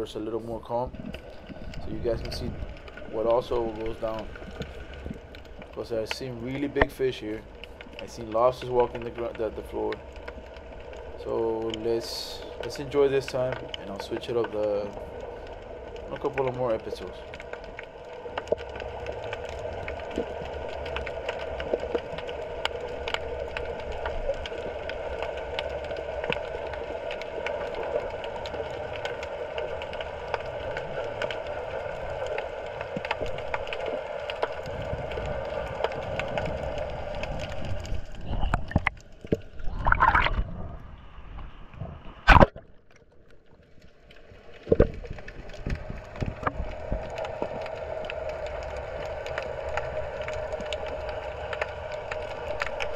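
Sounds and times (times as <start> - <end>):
muffled underwater water wash: 0.0 - 52.9
faint crackling clicks: 0.2 - 52.9.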